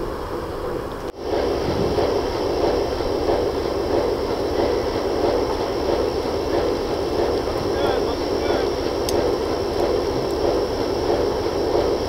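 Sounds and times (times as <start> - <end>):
work train rumbling: 0.0 - 12.0.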